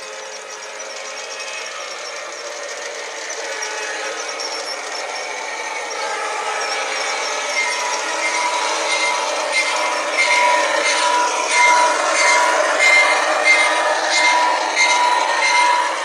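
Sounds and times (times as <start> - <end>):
model train motor whine: 0.0 - 16.0
model train wheel rumble: 0.0 - 16.0.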